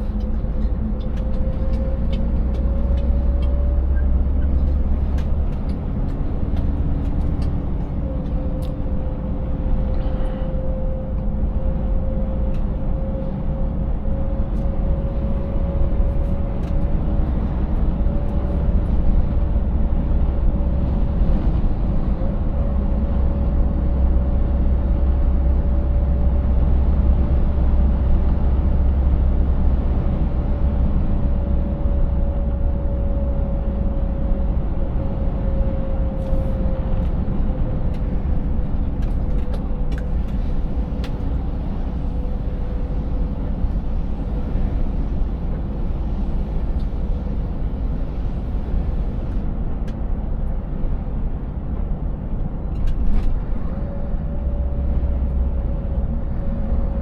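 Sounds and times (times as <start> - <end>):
deep truck engine rumble: 0.0 - 57.0.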